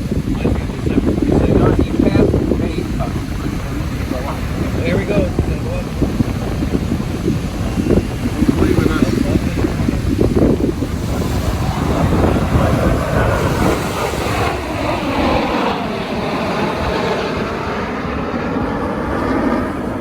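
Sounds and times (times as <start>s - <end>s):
plane engine flying past: 0.0s - 20.0s.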